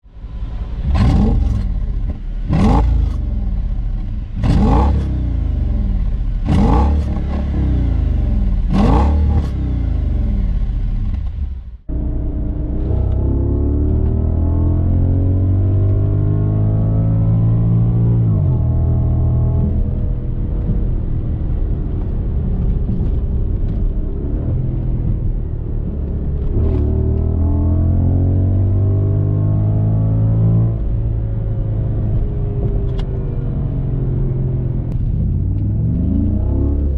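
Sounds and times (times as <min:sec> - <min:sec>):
car accelerating: 0:00.1 - 0:36.9
car engine revving: 0:00.1 - 0:36.9.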